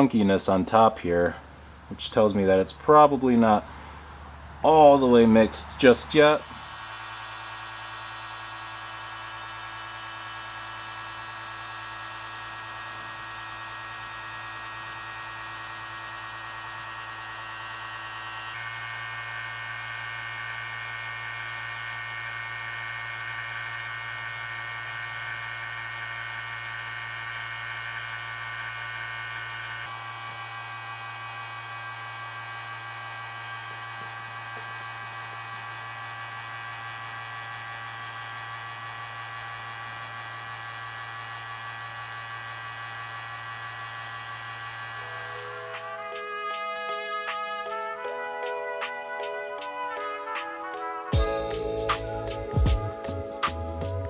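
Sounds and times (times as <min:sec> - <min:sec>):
furnace humming drone: 0:00.0 - 0:54.0.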